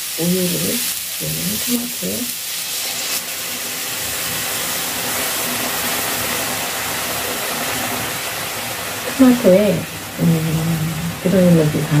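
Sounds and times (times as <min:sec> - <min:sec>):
tomatoes sizzling in a pan: 0:00.0 - 0:12.0.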